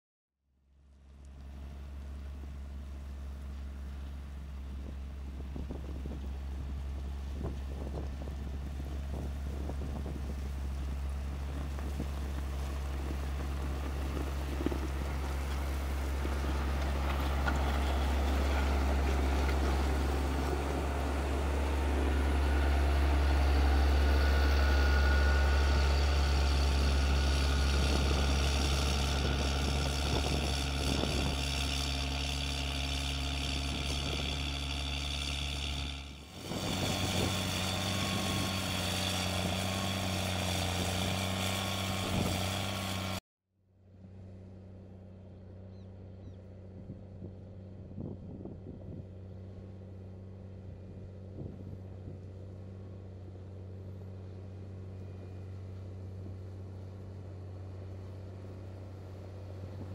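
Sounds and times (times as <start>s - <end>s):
diesel engine droning under load: 0.6s - 43.2s, 43.8s - 59.9s.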